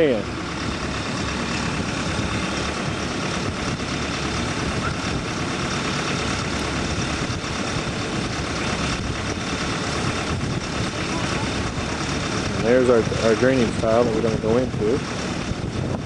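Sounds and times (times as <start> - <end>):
excavator engine idling: 0.0 - 16.0.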